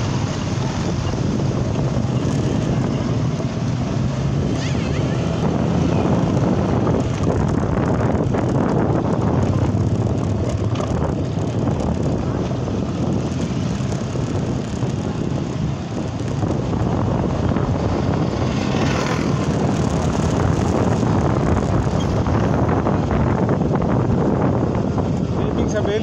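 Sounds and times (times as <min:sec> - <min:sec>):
motorbike engine and road noise: 0:00.0 - 0:26.0
wind rush on microphone: 0:00.0 - 0:26.0.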